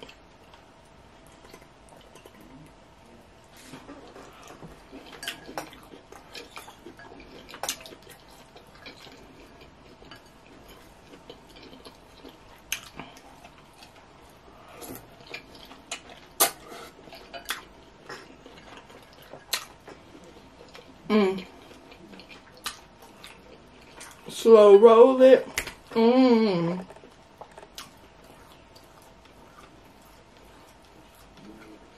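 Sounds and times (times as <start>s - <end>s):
wet eating sounds: 0.0s - 24.4s, 25.4s - 31.9s.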